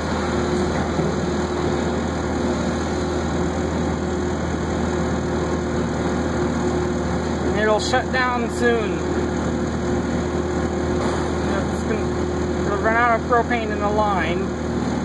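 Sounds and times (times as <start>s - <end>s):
sweeper engine running: 0.0s - 15.0s.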